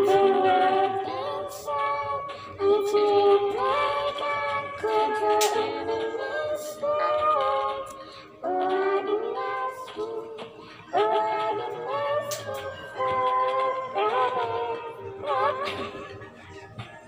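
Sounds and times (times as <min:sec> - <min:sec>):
girl singing into microphone: 0:00.0 - 0:16.0.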